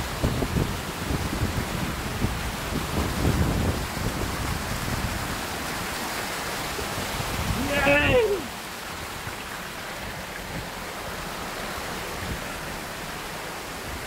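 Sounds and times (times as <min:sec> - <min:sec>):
stream splashing over rocks: 0:00.0 - 0:14.0.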